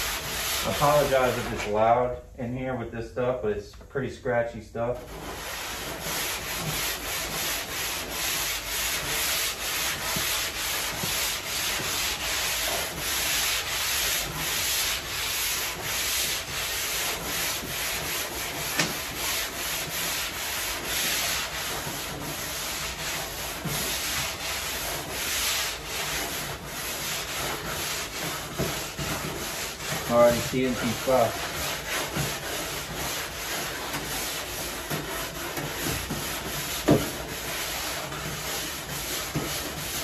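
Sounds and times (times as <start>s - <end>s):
sanding block scraping filler: 0.0s - 1.9s, 4.8s - 40.0s.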